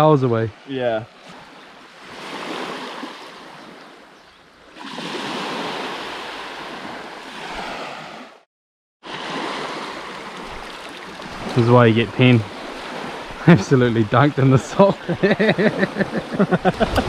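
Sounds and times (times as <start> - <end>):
small waves washing on sand: 0.5 - 8.4, 9.0 - 17.0.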